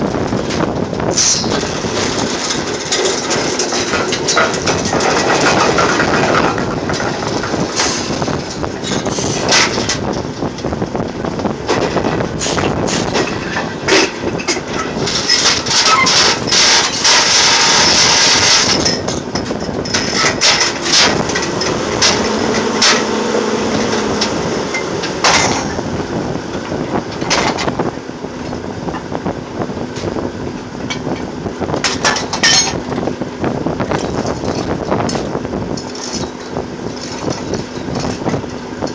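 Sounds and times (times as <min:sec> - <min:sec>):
drilling machinery running: 0:00.0 - 0:38.9
metal clanks and knocks: 0:00.4 - 0:10.7, 0:11.7 - 0:25.9, 0:26.6 - 0:27.8, 0:30.8 - 0:33.1, 0:33.9 - 0:38.9.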